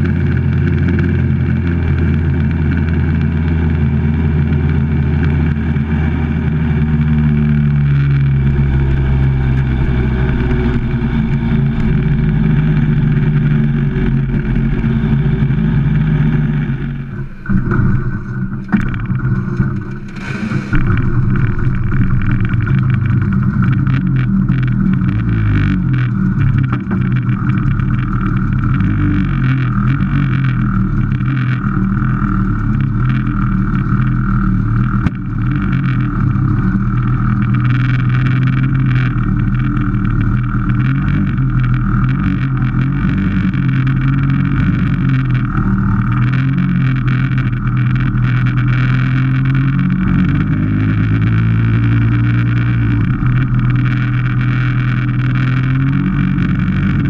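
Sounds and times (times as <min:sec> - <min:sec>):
scooter engine running: 0:00.0 - 0:57.0.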